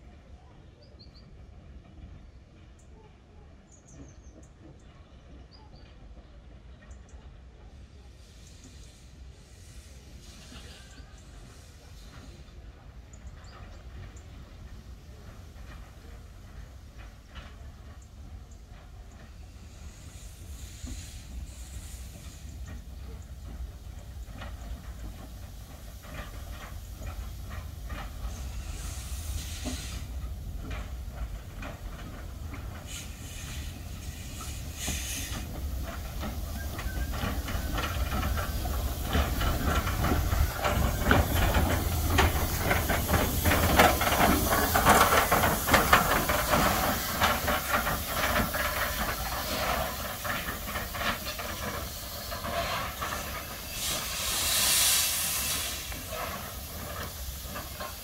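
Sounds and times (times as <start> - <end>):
loud rush of steam: 7.6 - 58.0
steam hissing: 7.6 - 58.0
locomotive wheels and rods clanking: 10.2 - 58.0.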